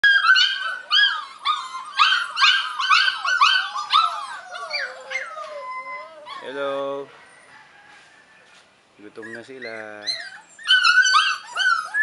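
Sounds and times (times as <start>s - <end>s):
puppies whining and yelping: 0.0s - 7.7s, 9.1s - 12.0s.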